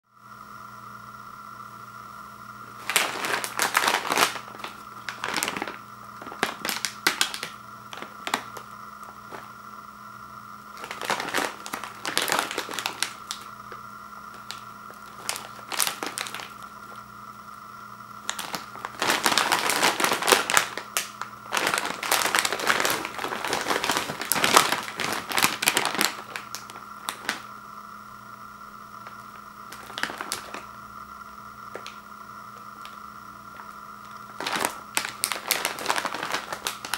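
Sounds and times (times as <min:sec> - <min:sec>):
faint steady hum: 0:00.0 - 0:36.9
plastic chip bag crinkling: 0:02.6 - 0:09.6, 0:10.6 - 0:17.1, 0:18.1 - 0:27.7, 0:28.9 - 0:36.9.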